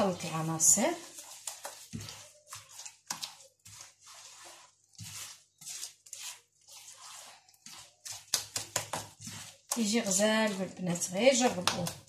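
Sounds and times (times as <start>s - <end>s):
hands squishing wet egg mix: 0.0s - 12.0s.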